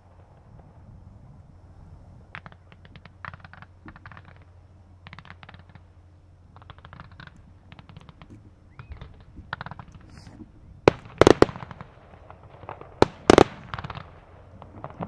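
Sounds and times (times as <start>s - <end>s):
faint fireworks popping and crackling: 0.0s - 15.0s.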